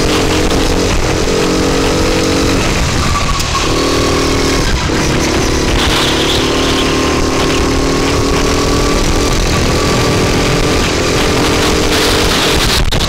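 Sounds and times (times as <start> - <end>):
go-kart engine running: 0.0 - 13.0
heavy rushing noise: 0.0 - 13.0.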